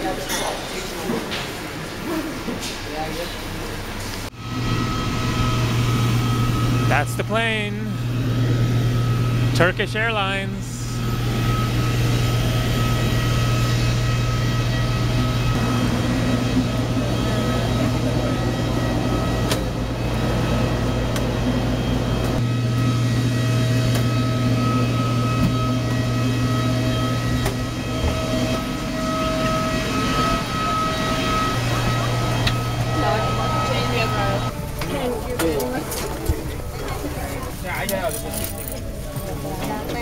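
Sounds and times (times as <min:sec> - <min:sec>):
low mechanical hum: 0:00.0 - 0:40.0
whining tones: 0:04.3 - 0:40.0.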